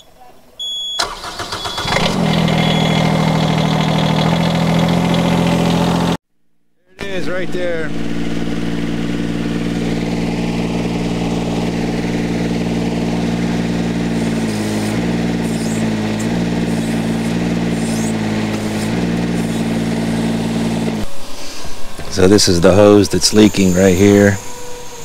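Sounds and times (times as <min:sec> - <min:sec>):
excavator engine running: 0:01.0 - 0:06.2, 0:06.9 - 0:25.0.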